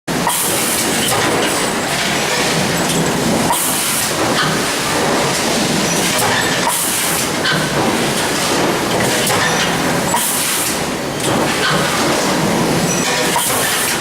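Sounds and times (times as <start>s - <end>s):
machinery running: 0.1s - 14.0s.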